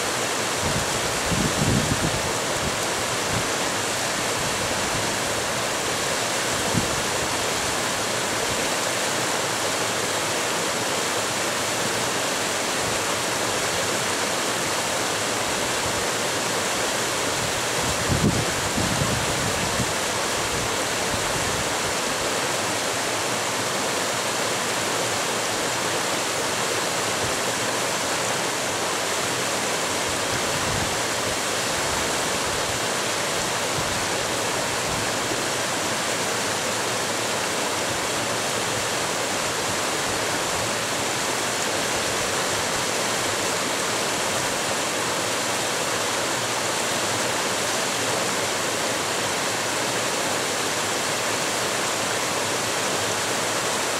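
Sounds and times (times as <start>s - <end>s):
creek water rushing over boulders: 0.0s - 53.9s.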